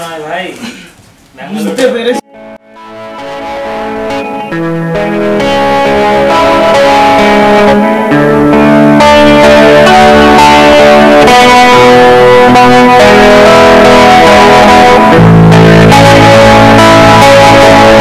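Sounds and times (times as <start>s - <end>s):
guitar background music: 2.1s - 18.0s.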